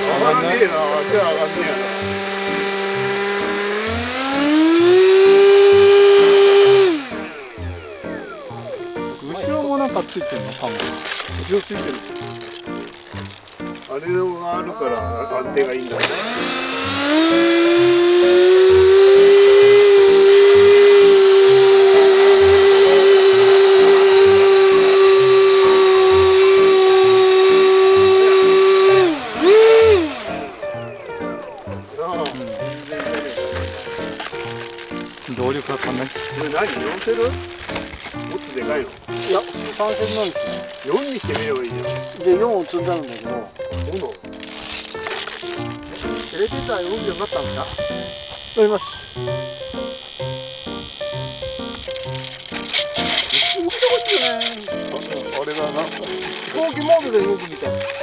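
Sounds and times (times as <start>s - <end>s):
electric motors and propellers whining: 0.0s - 13.9s, 14.8s - 58.0s.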